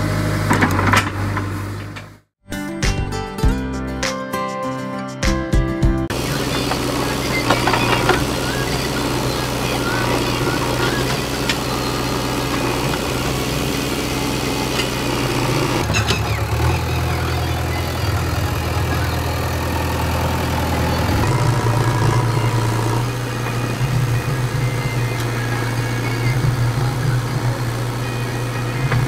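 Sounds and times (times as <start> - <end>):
diesel engine droning: 0.0 - 2.3, 6.1 - 29.0.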